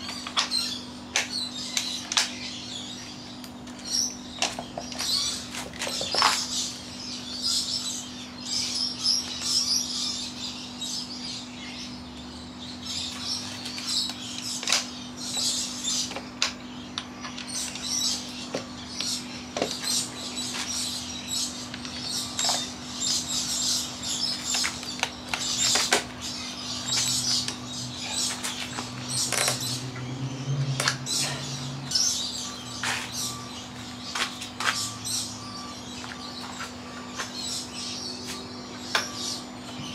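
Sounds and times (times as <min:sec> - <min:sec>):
air conditioner humming: 0:00.0 - 0:39.9
birds chirping: 0:00.0 - 0:39.9.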